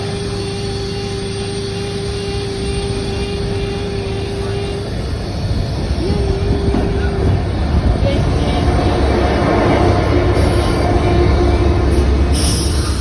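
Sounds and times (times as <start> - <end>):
steady whine: 0.0 - 13.0
train engine rumbling: 0.0 - 13.0.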